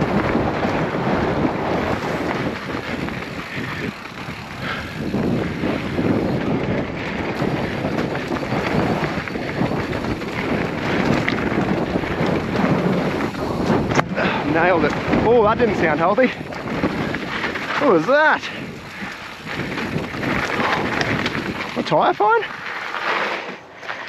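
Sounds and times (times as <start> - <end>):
wind buffeting microphone: 0.0 - 22.8
bike rattling: 0.0 - 24.0
bike tyres on rocky dirt trail: 0.0 - 24.0.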